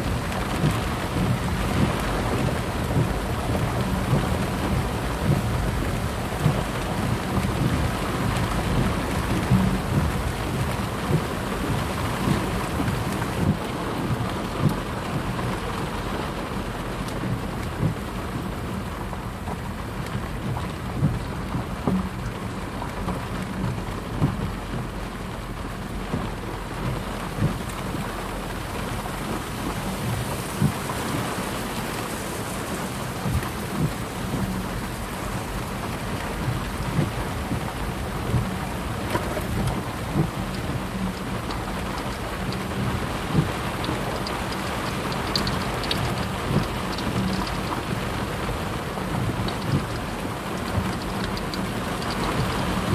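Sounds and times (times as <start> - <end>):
rain falling: 0.0 - 52.9
raindrops knocking on a surface: 0.0 - 52.9.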